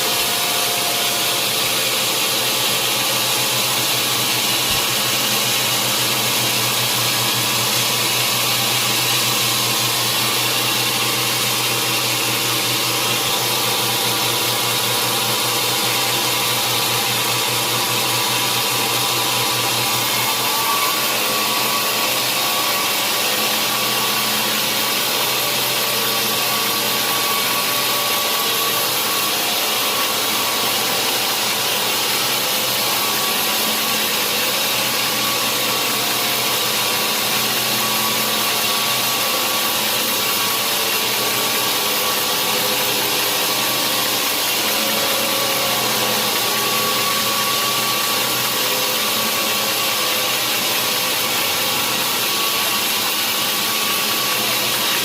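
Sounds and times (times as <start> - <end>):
sawmill saw running: 0.0 - 55.0.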